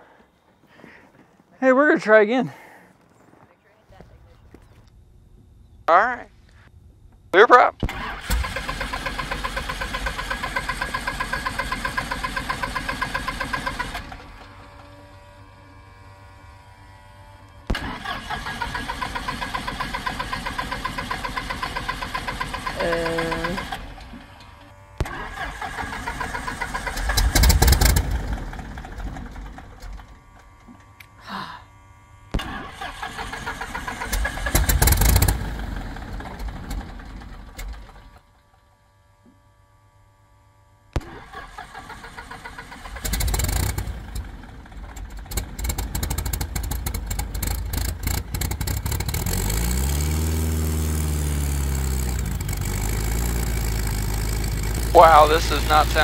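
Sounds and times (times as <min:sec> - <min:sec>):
airplane piston engine starting: 0:07.8 - 0:38.8, 0:40.9 - 0:56.0.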